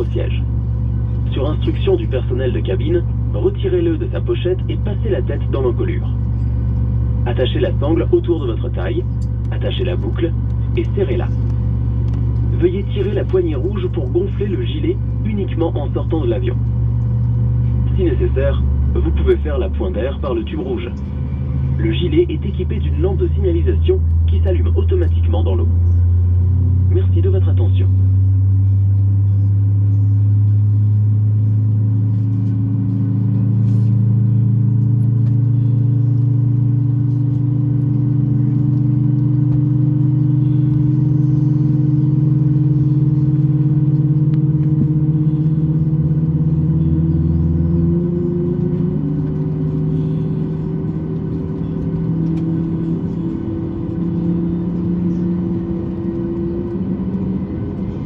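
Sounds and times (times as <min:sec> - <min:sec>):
jet engine hum in cabin: 0:00.0 - 0:58.0.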